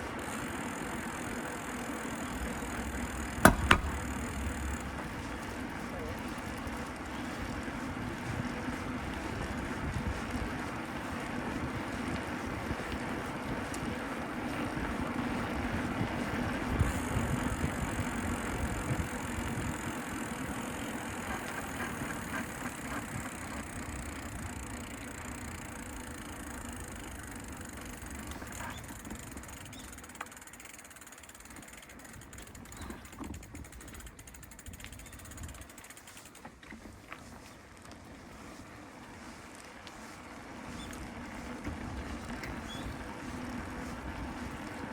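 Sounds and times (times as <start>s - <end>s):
road and traffic noise: 0.0s - 44.9s.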